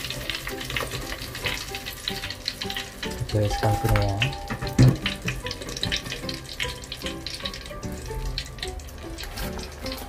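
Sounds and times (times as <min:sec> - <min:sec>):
oil sizzling and crackling: 0:00.0 - 0:10.0.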